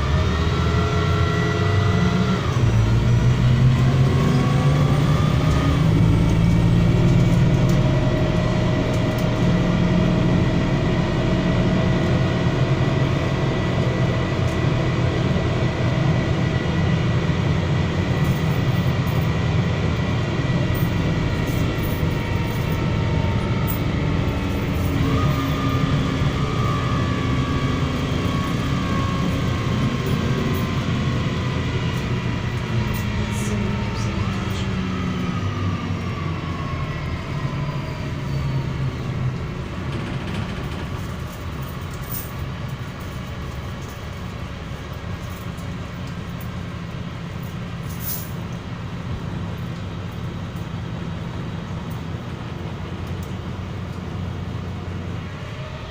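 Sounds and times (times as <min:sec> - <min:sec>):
bus engine running: 0:00.0 - 0:55.9.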